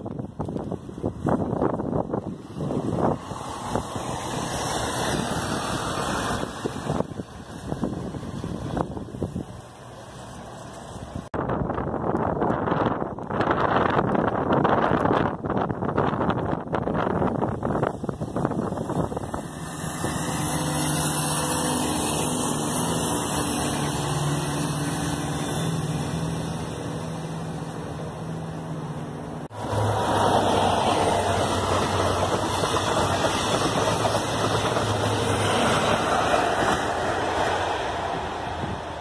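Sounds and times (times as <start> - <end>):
diesel train engine passing: 0.0 - 11.3, 12.7 - 39.0
train wheels rumbling on rails: 0.0 - 39.0.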